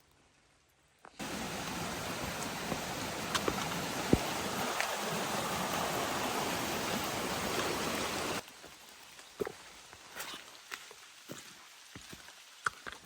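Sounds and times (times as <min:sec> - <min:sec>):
stream running water: 0:01.2 - 0:13.0.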